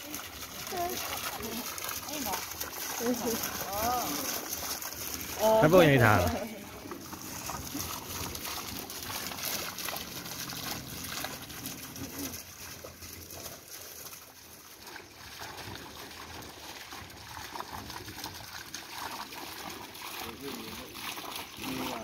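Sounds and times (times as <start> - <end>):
water splashing into a pool: 0.0 - 22.0.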